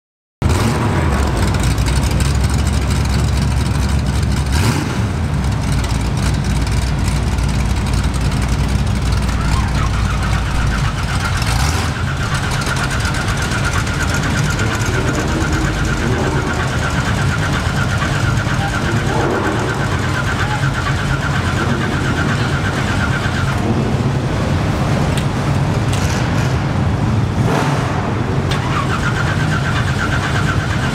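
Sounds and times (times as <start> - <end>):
car engine lopey idle: 0.9 - 26.0, 28.5 - 30.9.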